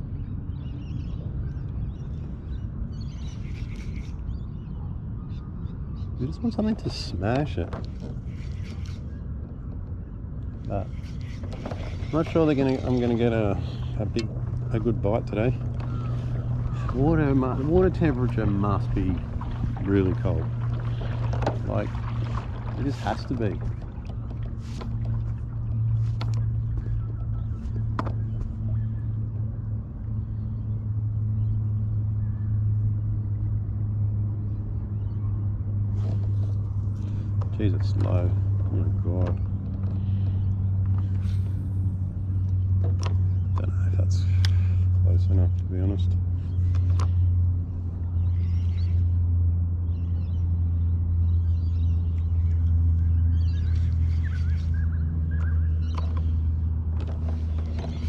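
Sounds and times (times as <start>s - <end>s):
boat motor humming: 0.0s - 58.0s.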